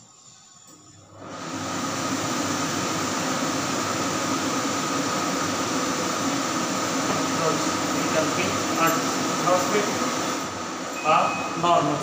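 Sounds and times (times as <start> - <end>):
thin steady fan whine: 0.0 - 12.0
blower fan rushing air: 1.2 - 12.0.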